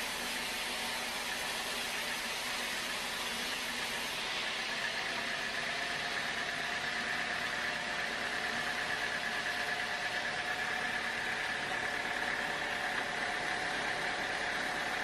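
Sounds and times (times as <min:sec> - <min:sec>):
sawmill machinery running: 0:00.0 - 0:15.0
steady high whine: 0:00.0 - 0:15.0.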